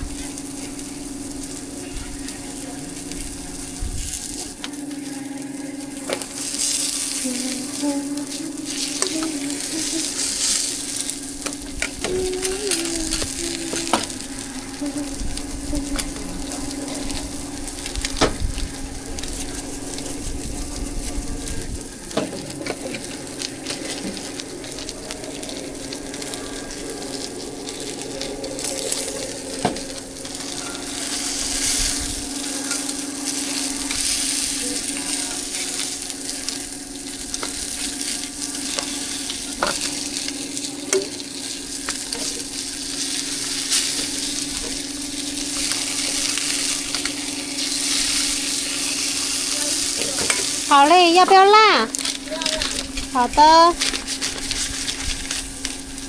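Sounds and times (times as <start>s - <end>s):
pancakes sizzling on a pan: 0.0s - 56.0s
steady low hum: 0.0s - 56.0s.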